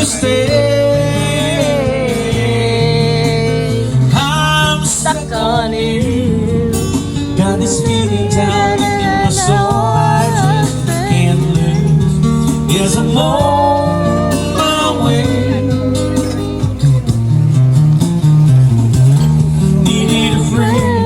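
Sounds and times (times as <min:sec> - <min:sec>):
person singing with vibrato: 0:00.0 - 0:17.1, 0:19.6 - 0:21.0
guitar accompaniment: 0:00.0 - 0:21.0.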